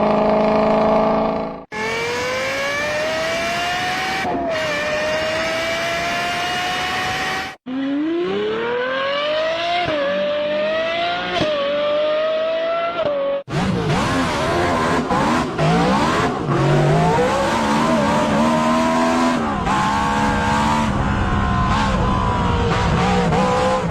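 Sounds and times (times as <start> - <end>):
car engine accelerating through gears: 0.0 - 23.9
car engine at high revs: 0.0 - 23.9.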